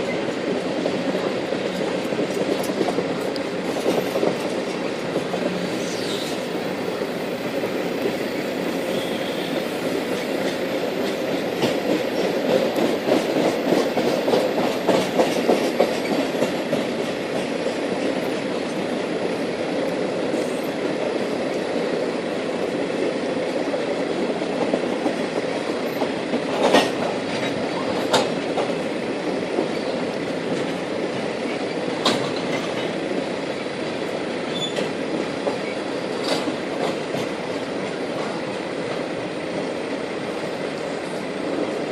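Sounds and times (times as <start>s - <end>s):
train sharp clanks: 0.0s - 18.9s, 23.4s - 41.9s
steel wheels rumbling on rail: 0.0s - 41.9s.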